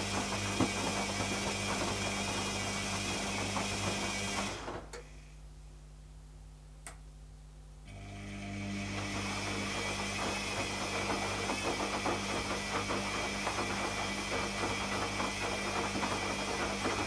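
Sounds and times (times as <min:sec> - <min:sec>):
washing machine humming and rushing: 0:00.0 - 0:05.0, 0:07.9 - 0:17.0.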